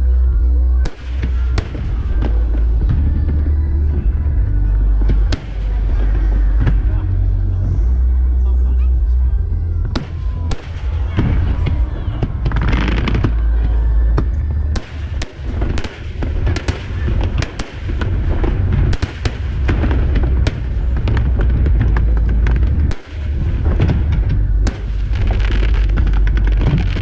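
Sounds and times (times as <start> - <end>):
deep rumble of booms: 0.0 - 27.0
fireworks bursting: 0.0 - 27.0.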